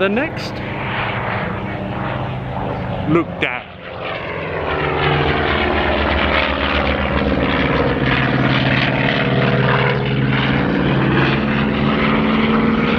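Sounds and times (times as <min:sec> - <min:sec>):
propeller airplane engine droning: 0:00.0 - 0:12.9.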